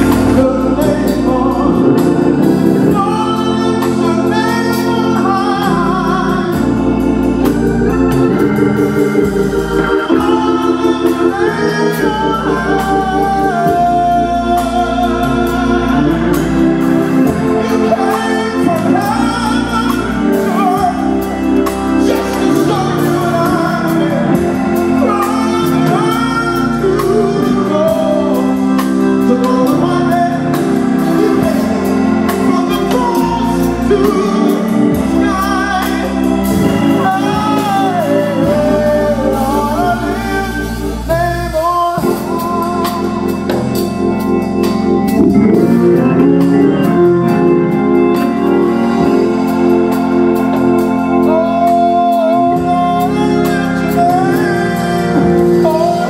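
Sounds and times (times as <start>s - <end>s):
drum kit: 0.0s - 56.0s
man singing: 0.0s - 56.0s
organ playing sustained chords: 0.0s - 56.0s.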